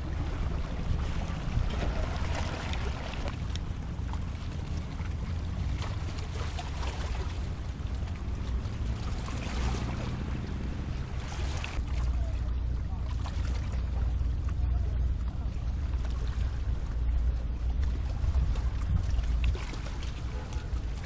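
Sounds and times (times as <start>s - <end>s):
low rumble: 0.0s - 21.0s
wind buffeting microphone: 0.0s - 21.0s.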